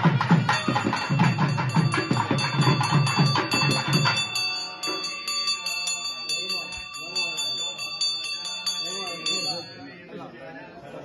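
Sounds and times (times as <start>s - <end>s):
fast drumming: 0.0s - 9.7s
bells ringing: 0.0s - 10.3s.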